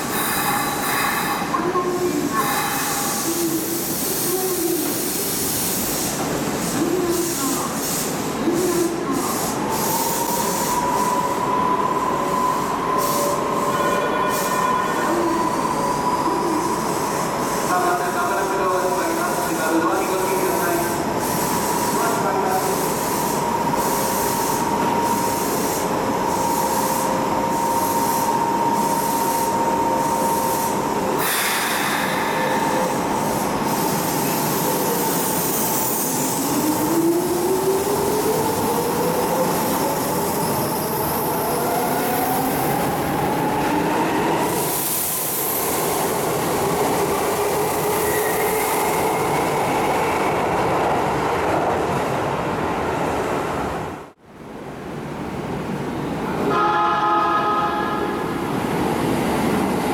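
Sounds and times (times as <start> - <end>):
train steady tone: 0.0 - 51.0, 56.2 - 59.9.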